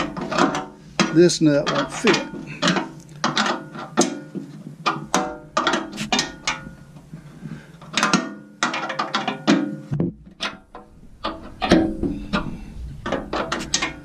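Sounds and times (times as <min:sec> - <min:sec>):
metallic clinks and knocks: 0:00.0 - 0:14.0.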